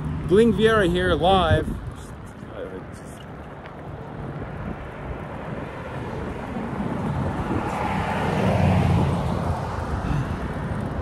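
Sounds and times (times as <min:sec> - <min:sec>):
vehicle passing on road: 0:00.0 - 0:11.0.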